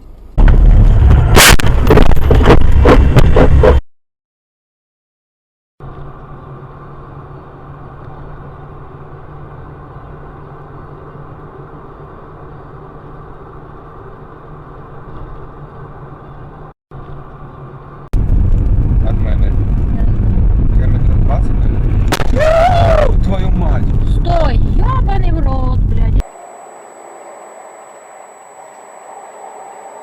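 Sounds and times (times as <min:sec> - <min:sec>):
car engine and road noise: 0:00.0 - 0:03.8, 0:05.8 - 0:30.0.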